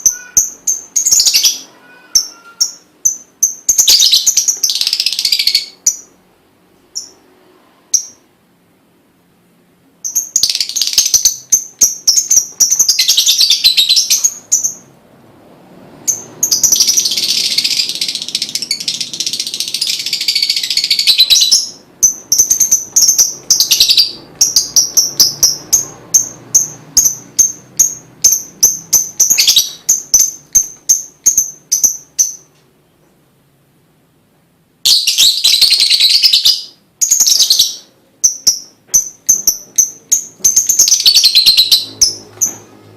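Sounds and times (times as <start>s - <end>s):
lovebird singing: 0.0s - 6.2s, 6.9s - 7.2s, 7.9s - 8.3s, 10.0s - 15.0s, 16.0s - 32.6s, 34.8s - 42.8s.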